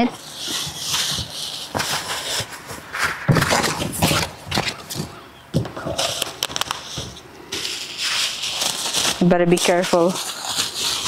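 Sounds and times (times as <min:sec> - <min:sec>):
packaging rustling and crinkling: 0:00.5 - 0:11.0.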